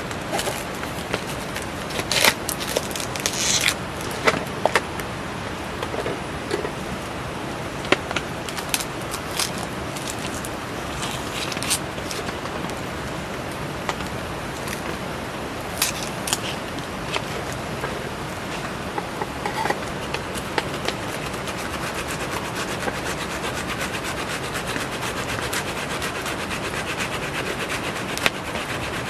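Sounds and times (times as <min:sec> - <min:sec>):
campfire crackling and popping: 0:00.0 - 0:29.0
rain hissing: 0:00.0 - 0:29.0.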